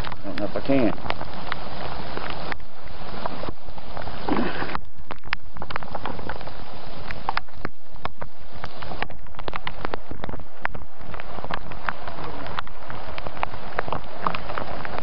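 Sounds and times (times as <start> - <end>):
heavy rain: 0.0 - 15.0
raindrops clicking: 0.0 - 15.0.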